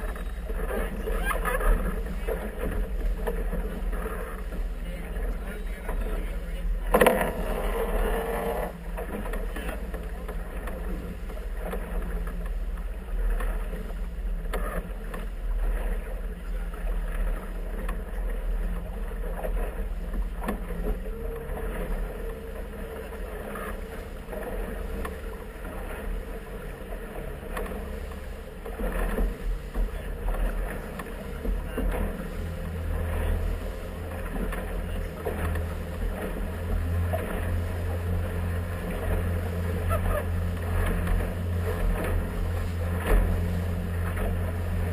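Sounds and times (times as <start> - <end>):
boat engine droning: 0.0 - 44.9
water splashing against hull: 0.0 - 44.9.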